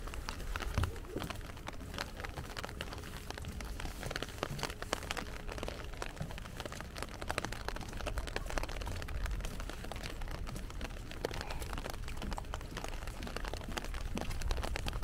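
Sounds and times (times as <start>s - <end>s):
heavy rain patter: 0.0s - 15.0s.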